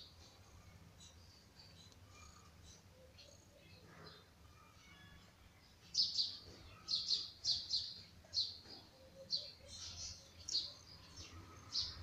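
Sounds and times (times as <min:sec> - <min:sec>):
bird chirping: 0:00.0 - 0:04.3, 0:05.8 - 0:12.0.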